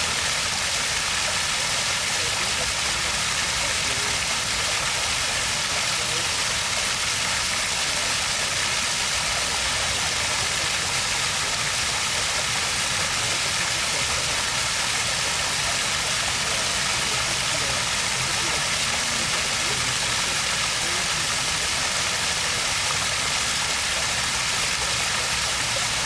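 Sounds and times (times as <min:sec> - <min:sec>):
water stream flowing: 0:00.0 - 0:26.0.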